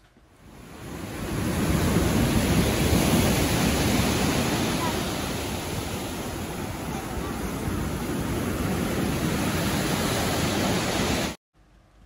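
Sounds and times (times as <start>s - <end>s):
wind on microphone: 0.4s - 11.4s
surf breaking on pebble beach: 0.5s - 11.4s.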